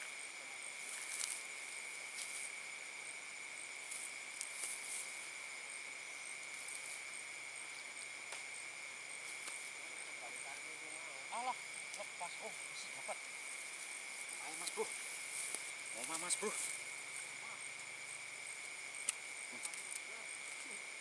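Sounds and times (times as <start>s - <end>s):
high insect chirp: 0.0s - 21.0s
insect drone: 0.0s - 21.0s.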